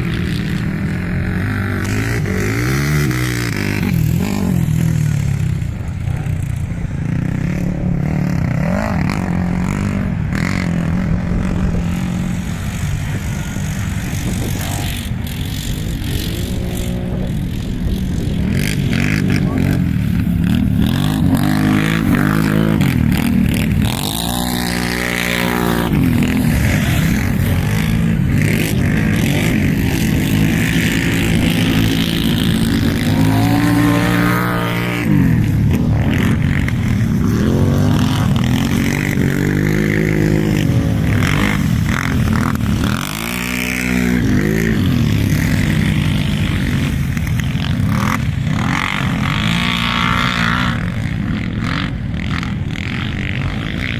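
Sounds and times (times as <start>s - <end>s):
quad bike engine revving: 0.0s - 53.9s.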